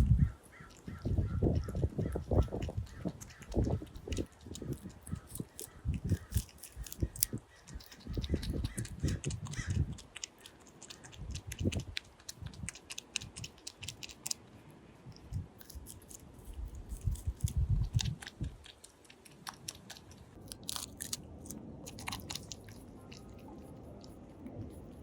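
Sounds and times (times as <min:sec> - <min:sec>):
animal chewing and crunching food: 0:00.0 - 0:25.0.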